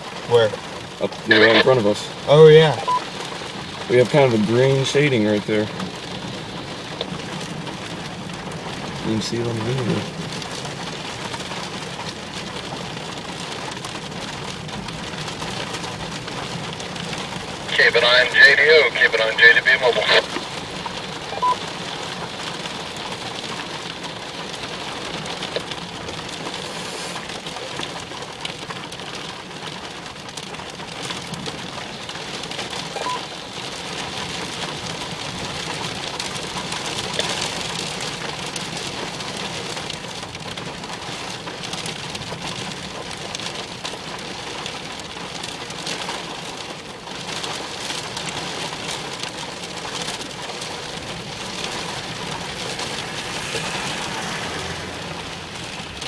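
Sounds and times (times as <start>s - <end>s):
faint ticks of raindrops: 0.0s - 56.0s
steady rain hiss: 0.0s - 56.0s.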